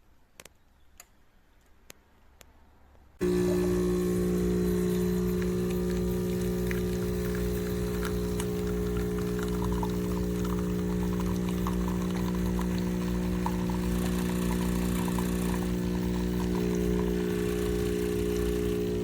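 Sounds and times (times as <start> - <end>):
espresso machine pump humming: 3.2 - 19.0.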